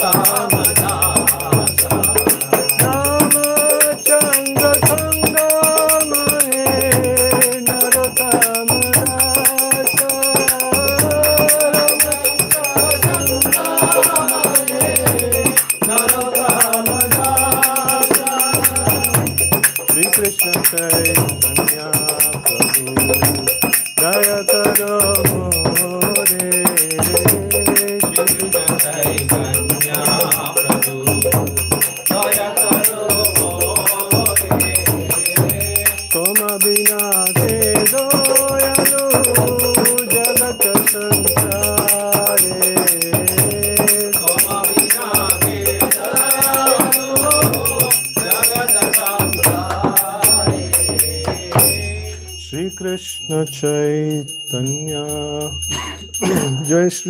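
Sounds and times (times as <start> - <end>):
jingling hand percussion: 0.0 - 57.0
voices singing devotional song: 0.0 - 57.0.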